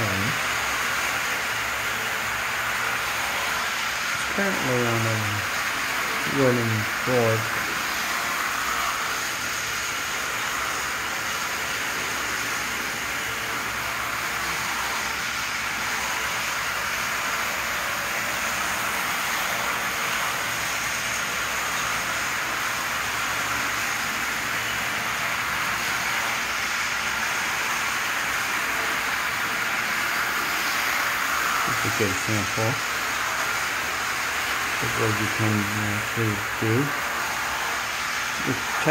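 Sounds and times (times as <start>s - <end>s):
model train motors whirring: 0.0s - 38.9s.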